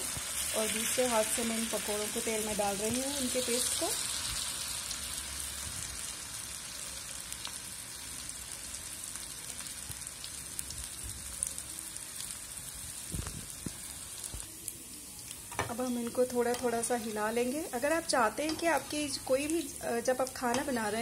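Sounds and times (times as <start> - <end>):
batter sizzling in hot oil: 0.0 - 21.0.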